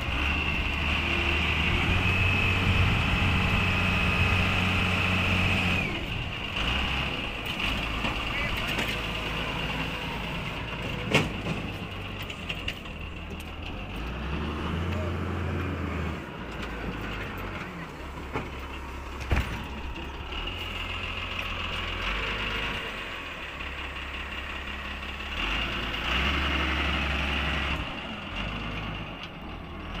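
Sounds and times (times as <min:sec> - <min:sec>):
heavy diesel machinery running: 0:00.0 - 0:30.0.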